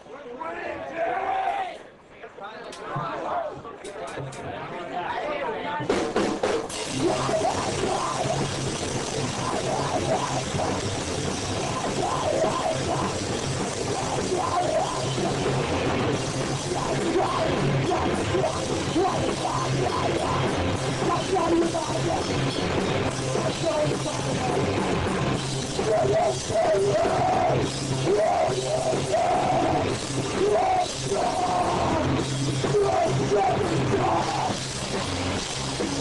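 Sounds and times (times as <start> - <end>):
live rock band playing: 6.0 - 36.0.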